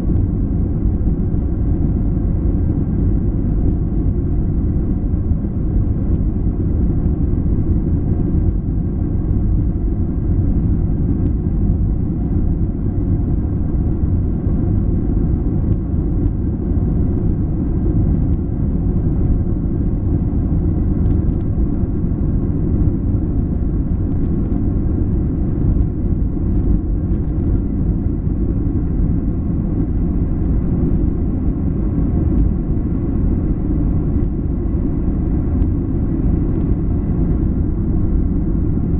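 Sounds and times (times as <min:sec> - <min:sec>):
jet engines at takeoff power: 0:00.0 - 0:38.9.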